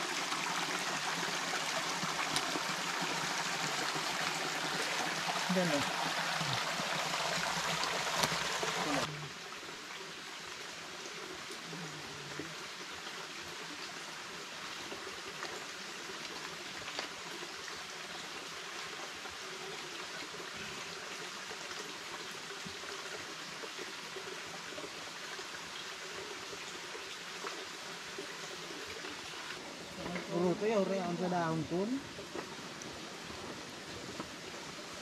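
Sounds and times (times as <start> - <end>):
stream trickling over stones: 0.0 - 35.0.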